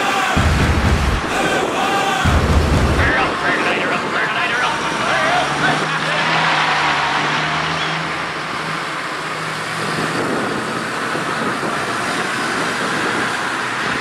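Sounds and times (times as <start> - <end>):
tractors driving past: 0.0 - 14.0.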